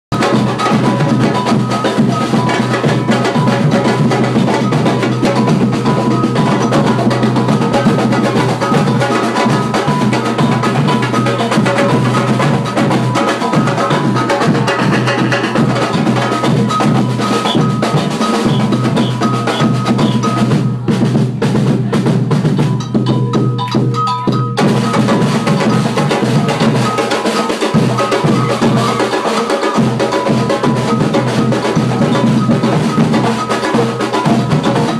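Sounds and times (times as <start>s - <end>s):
samba drum ensemble: 0.1s - 34.9s.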